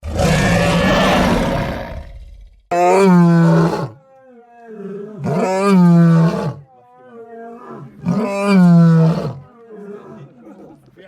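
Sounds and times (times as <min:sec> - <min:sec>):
lion roar: 0:00.0 - 0:10.6.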